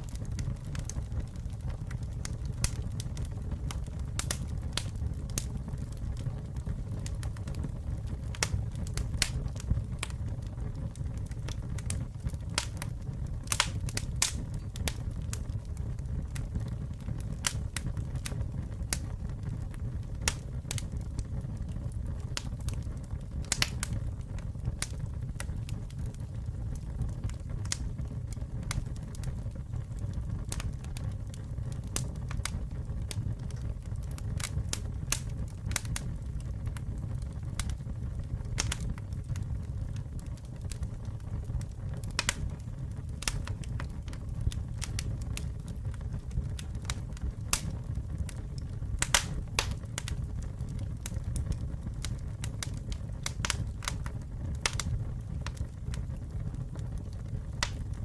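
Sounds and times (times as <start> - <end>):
campfire low rumble: 0.0 - 58.0
wood crackling and popping: 0.0 - 58.0.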